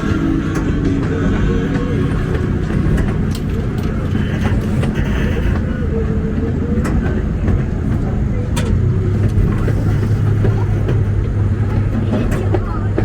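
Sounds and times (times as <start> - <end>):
train rumbling: 0.0 - 13.0
train wheels clicking: 0.0 - 13.0.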